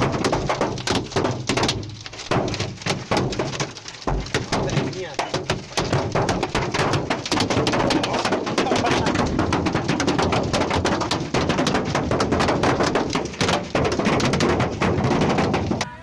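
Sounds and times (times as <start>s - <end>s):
rapid clatter of sharp impacts: 0.0s - 15.9s.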